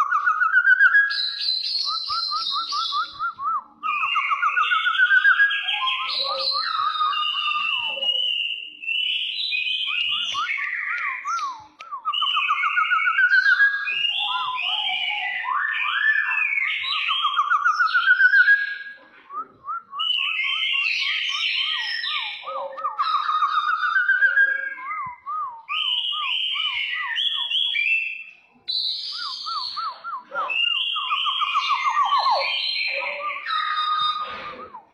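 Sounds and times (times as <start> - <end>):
bird singing warbling trills: 0.0 - 3.2, 3.9 - 19.0, 20.0 - 34.4.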